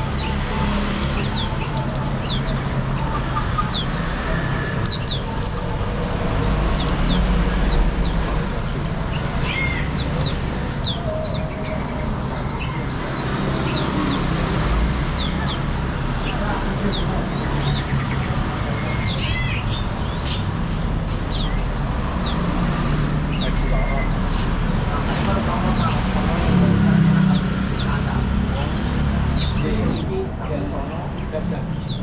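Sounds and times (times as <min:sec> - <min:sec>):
small songbirds chirping: 0:00.0 - 0:32.0.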